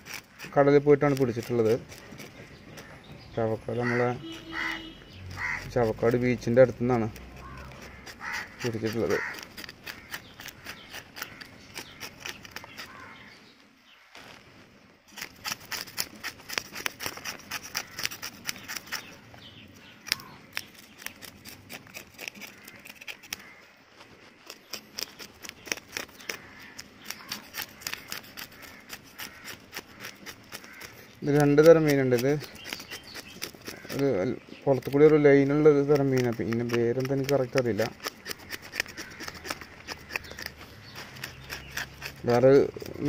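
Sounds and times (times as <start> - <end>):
knife scraping fish scales: 0.0 - 3.0, 4.2 - 13.2, 15.1 - 34.2, 34.8 - 43.0.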